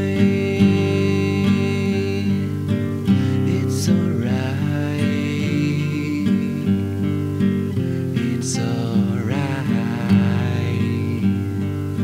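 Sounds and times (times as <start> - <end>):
strummed guitars over bass: 0.0 - 12.0.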